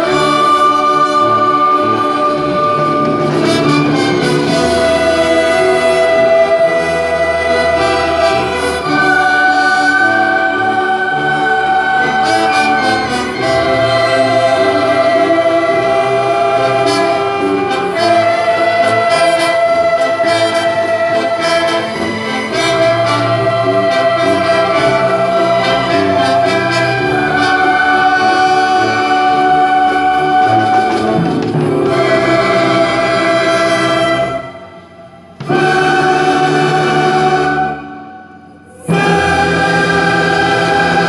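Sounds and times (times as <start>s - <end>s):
orchestra and choir holding chords: 0.0s - 41.0s.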